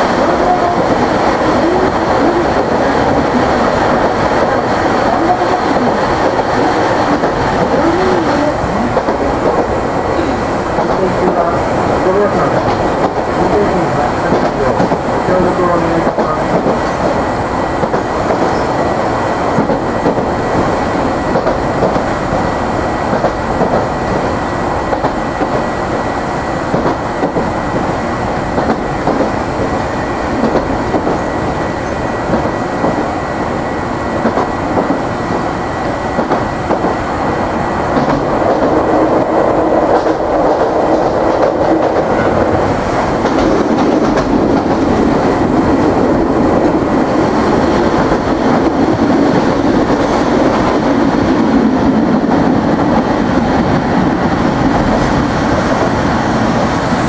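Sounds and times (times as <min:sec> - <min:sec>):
tram wheels rumbling on rail: 0:00.0 - 0:57.0.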